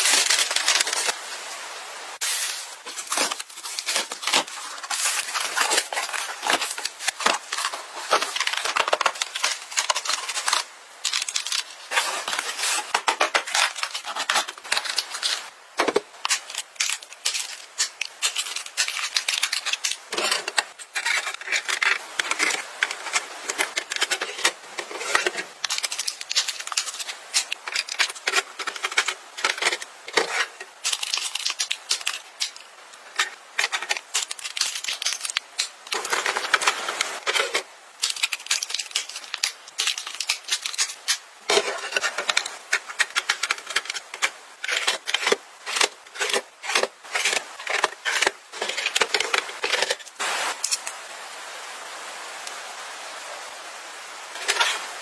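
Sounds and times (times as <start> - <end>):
plastic packs clicking and rustling: 0.0 - 1.2, 2.3 - 50.9, 54.3 - 54.8.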